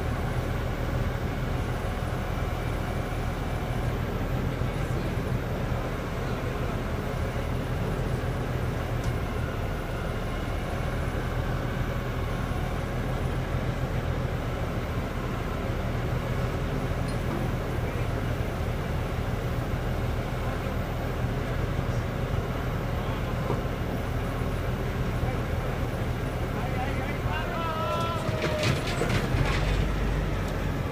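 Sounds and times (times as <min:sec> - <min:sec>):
drilling rig engine humming: 0:00.0 - 0:30.9.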